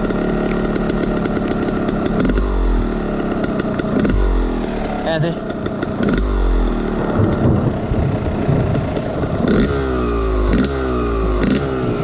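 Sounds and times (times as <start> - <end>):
dirt bike engine revving: 0.0 - 12.0
engine sharp snaps: 0.4 - 10.8.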